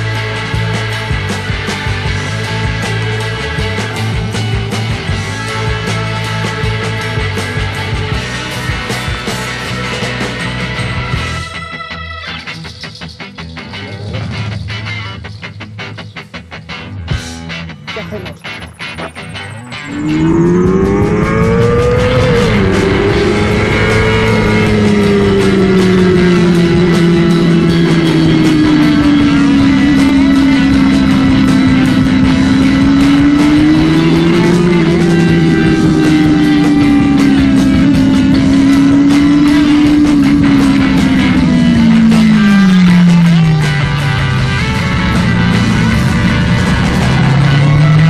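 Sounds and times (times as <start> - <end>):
motorcycle engine revving: 0.0 - 11.5, 18.8 - 48.0
guitar background music: 0.0 - 48.0.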